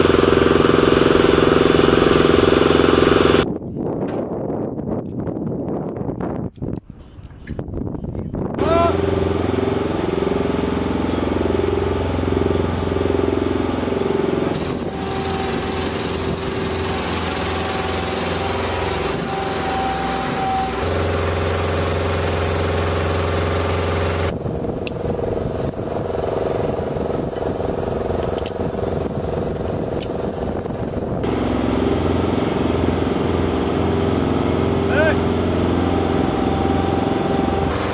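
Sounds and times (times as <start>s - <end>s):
lift truck engine running: 0.0s - 3.5s, 8.6s - 37.9s.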